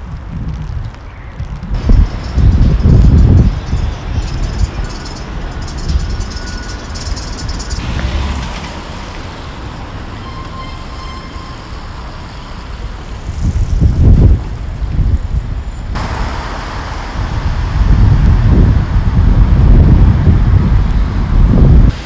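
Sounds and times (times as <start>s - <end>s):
wind buffeting microphone: 0.0s - 10.2s, 12.8s - 22.0s
traffic rumble: 0.0s - 22.0s.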